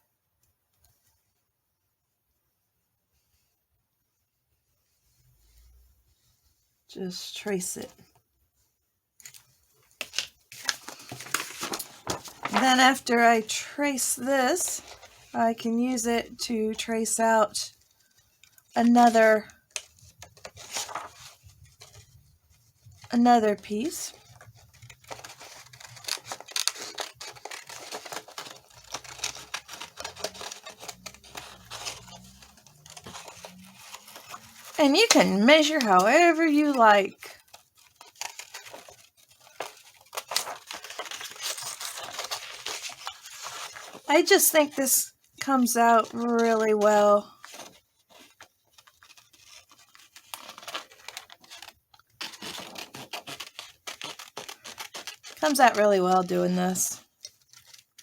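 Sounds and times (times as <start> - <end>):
paper rustling: 9.2 - 58.0.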